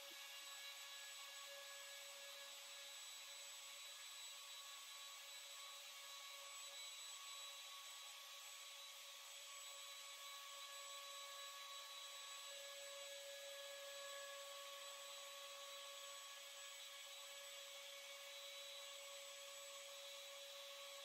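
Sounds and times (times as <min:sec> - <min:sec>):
trim router whining: 0:00.0 - 0:21.0.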